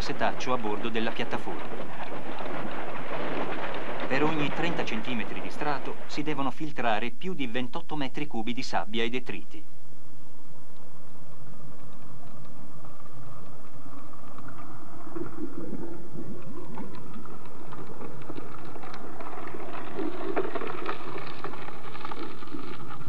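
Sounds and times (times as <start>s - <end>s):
crackle of grit: 0.0s - 9.6s, 10.6s - 23.0s.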